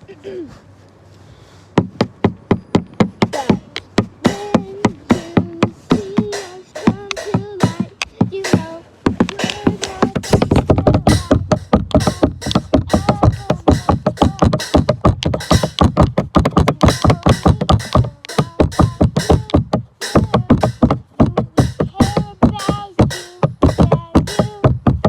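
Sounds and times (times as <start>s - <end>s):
song with fast beat: 2.3s - 25.0s.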